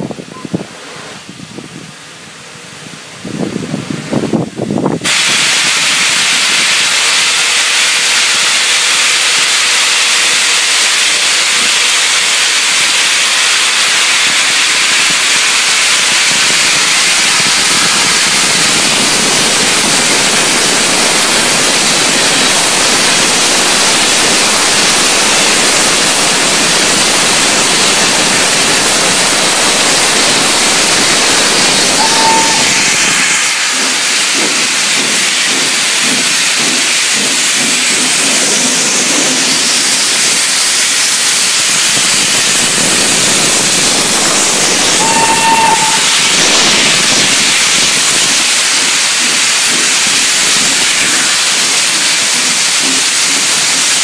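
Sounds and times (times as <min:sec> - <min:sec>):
steam locomotive venting steam: 0:00.0 - 0:54.0.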